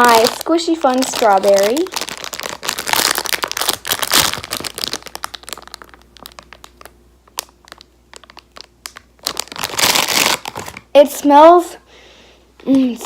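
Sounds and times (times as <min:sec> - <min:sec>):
squishy toy crinkling and rustling: 0:00.0 - 0:10.9.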